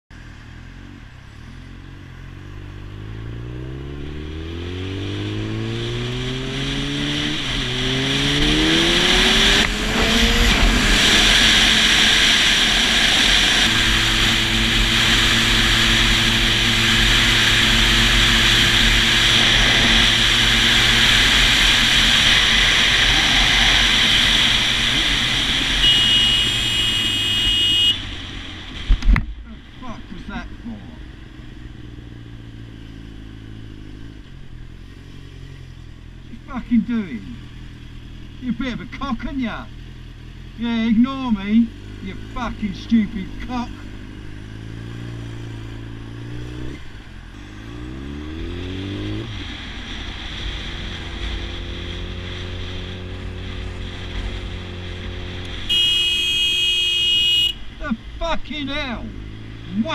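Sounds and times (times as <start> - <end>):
motorcycle engine accelerating: 0.2 - 59.9.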